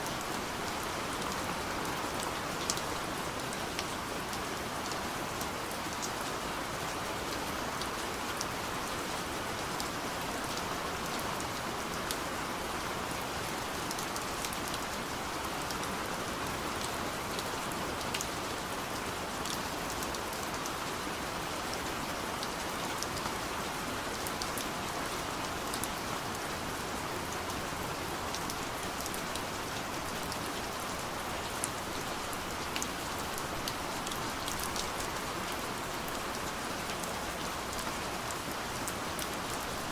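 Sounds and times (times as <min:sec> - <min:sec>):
soft rain on a window: 0:00.0 - 0:39.9.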